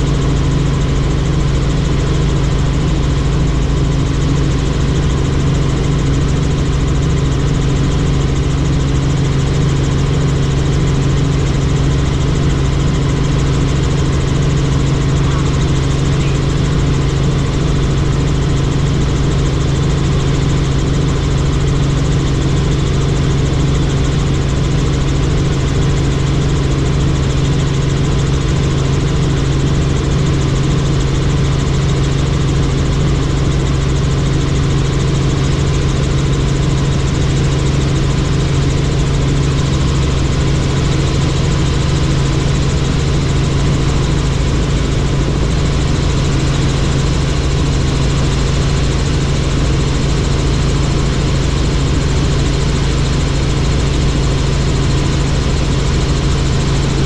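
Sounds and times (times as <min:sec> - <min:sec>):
helicopter in flight: 0:00.0 - 0:57.0.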